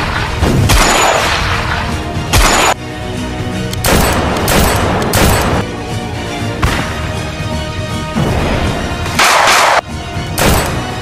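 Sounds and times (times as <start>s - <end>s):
film score music: 0.0s - 11.0s.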